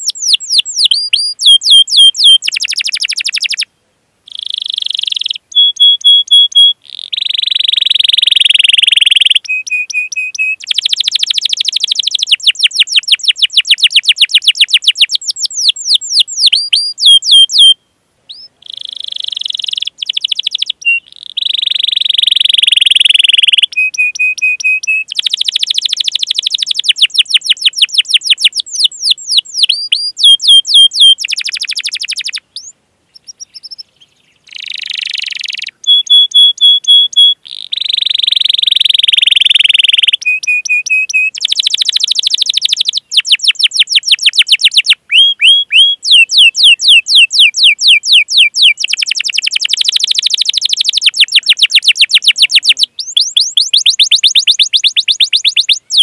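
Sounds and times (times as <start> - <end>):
canary singing: 0.0 - 3.7, 4.3 - 56.0.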